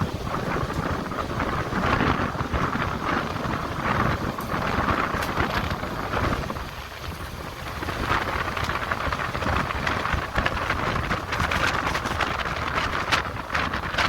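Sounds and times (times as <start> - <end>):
train clatter: 0.0 - 14.0
train rumble: 0.0 - 14.0
wind buffeting microphone: 0.0 - 14.0.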